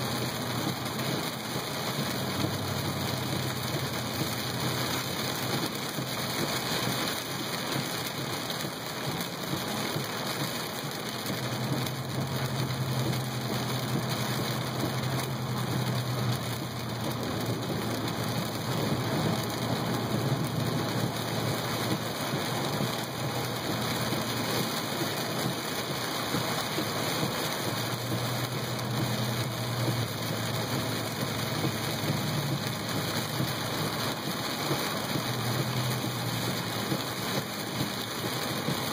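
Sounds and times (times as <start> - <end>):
heavy rain on car: 0.0 - 38.9.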